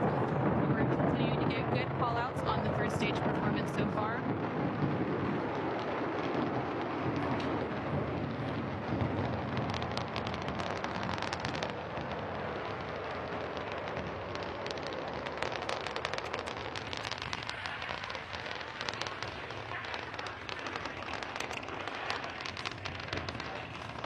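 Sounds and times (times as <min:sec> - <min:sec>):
rocket engines crackling rumble: 0:00.0 - 0:24.0.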